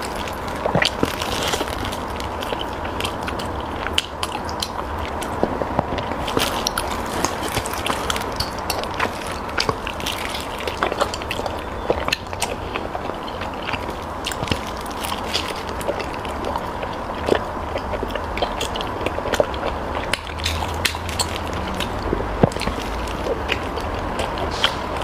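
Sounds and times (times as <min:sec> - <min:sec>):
person chewing soft food: 0:00.0 - 0:25.0.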